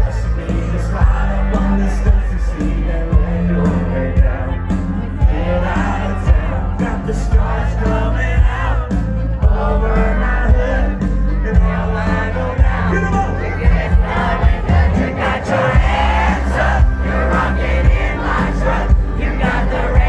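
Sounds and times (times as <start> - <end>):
crowd cheering and singing: 0.0 - 20.0
live band music: 0.0 - 20.0
person singing: 0.0 - 20.0.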